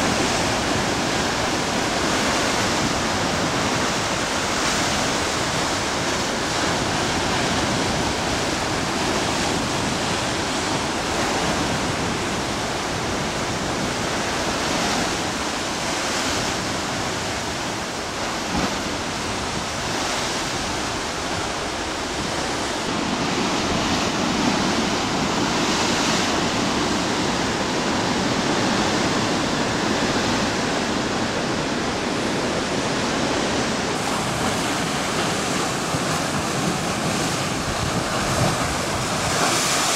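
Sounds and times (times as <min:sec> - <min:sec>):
heavy surf rushing: 0:00.0 - 0:39.9
waves breaking against rock: 0:00.0 - 0:39.9.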